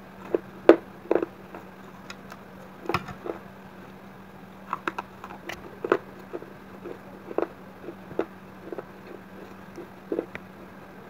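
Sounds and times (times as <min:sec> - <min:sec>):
faint steady hum: 0:00.0 - 0:11.0
teeth crunching baked clay: 0:00.2 - 0:04.0, 0:04.6 - 0:10.7.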